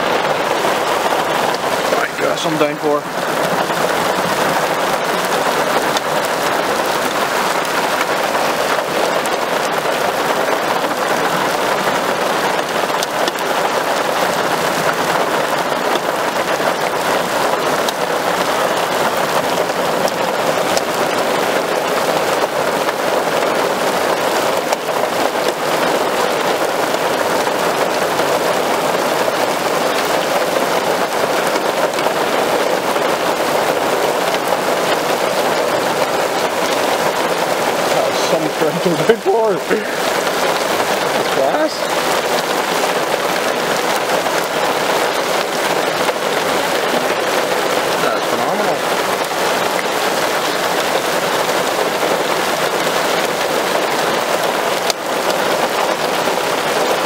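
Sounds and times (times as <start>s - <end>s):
torrential rain: 0.0s - 57.0s.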